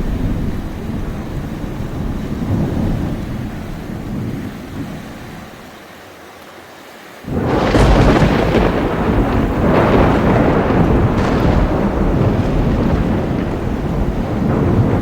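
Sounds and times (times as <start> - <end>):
thunderclap: 0.0 - 5.5, 7.3 - 15.0
rumble of thunder: 0.0 - 5.6, 7.3 - 15.0.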